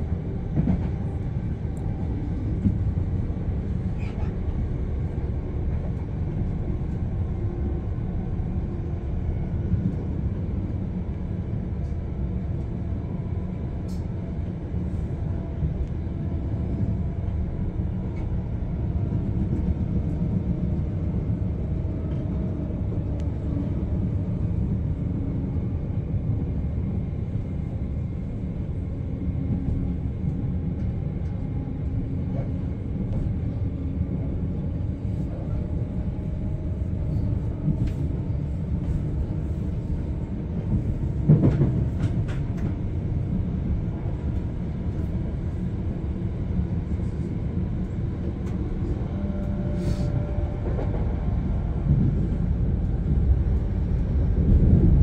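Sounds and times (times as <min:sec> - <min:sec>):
train rumbling inside carriage: 0:00.0 - 0:55.0.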